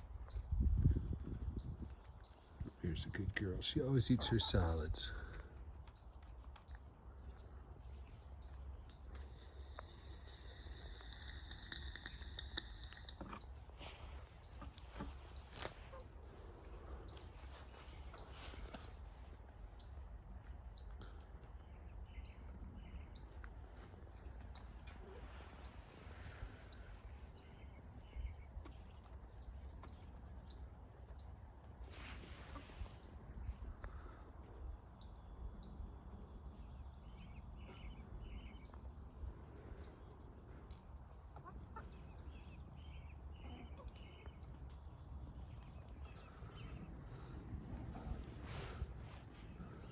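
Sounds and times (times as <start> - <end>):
small bird chirping: 0.0 - 49.9.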